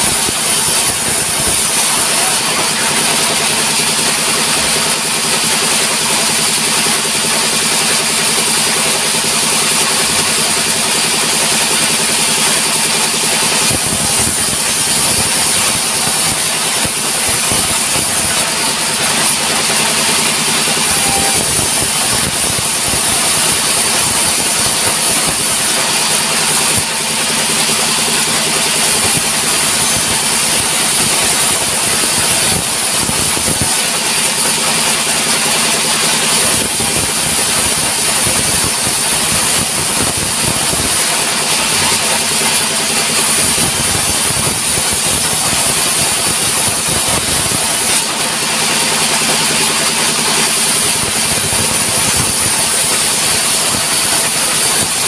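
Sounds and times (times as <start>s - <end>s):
band saw blade cutting wood: 0.0s - 55.0s.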